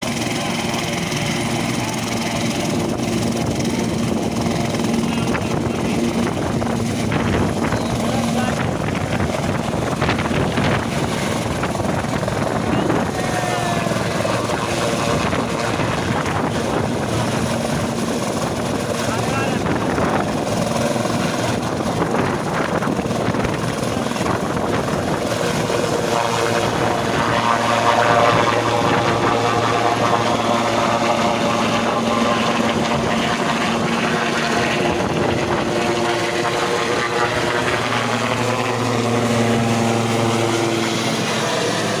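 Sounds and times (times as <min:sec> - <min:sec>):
aircraft engine droning: 0:00.0 - 0:42.0.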